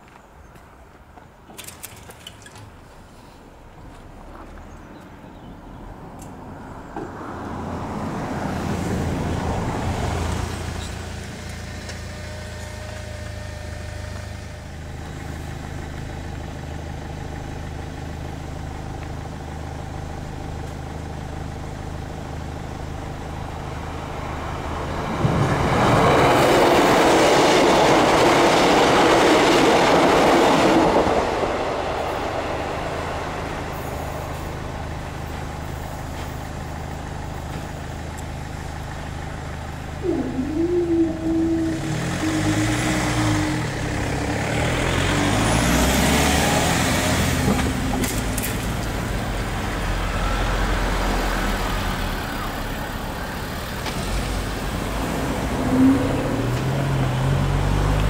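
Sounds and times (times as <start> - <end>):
low engine hum: 2.6 - 58.0
diesel train passing: 2.7 - 58.0.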